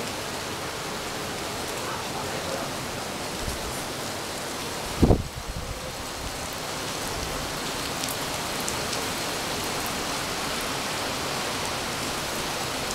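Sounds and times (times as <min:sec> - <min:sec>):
steady rain hiss: 0:00.0 - 0:12.9.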